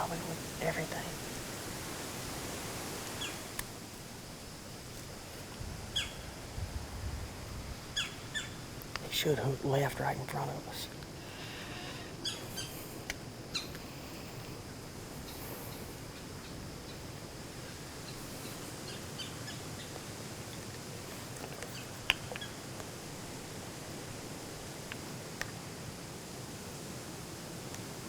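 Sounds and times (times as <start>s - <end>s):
steady low hiss: 0.0s - 28.0s.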